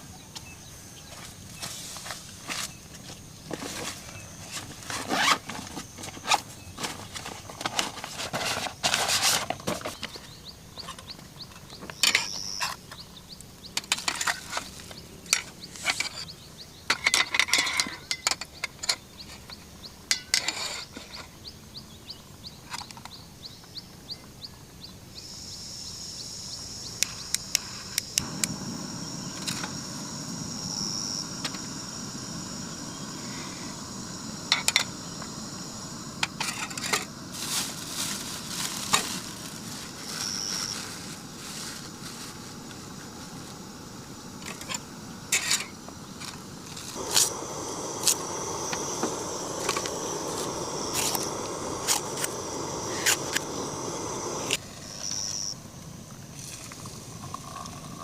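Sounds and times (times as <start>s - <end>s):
high-pitched insect whine: 0.0s - 23.5s, 24.6s - 58.0s.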